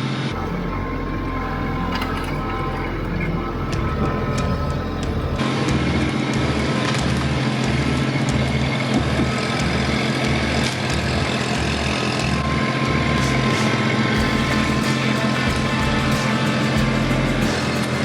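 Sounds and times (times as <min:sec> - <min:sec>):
tractor engine running: 0:00.3 - 0:12.4, 0:13.0 - 0:18.0.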